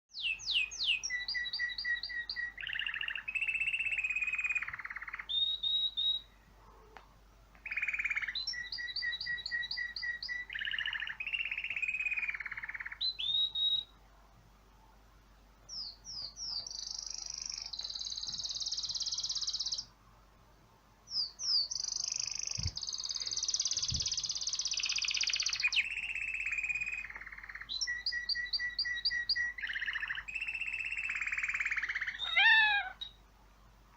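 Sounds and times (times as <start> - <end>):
recorded birdsong through phone speaker: 0.1 - 6.4, 7.6 - 13.9, 15.7 - 19.9, 21.1 - 33.2.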